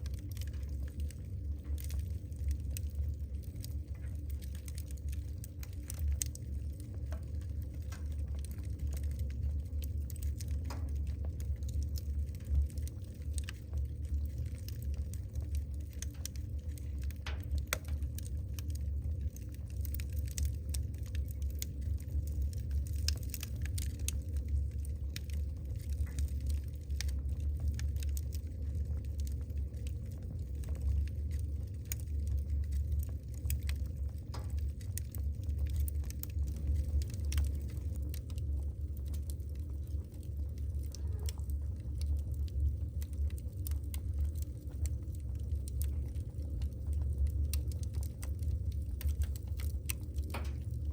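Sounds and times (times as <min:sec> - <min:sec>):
fire crackling and popping: 0:00.0 - 0:50.9
low rumble of fire: 0:00.0 - 0:50.9.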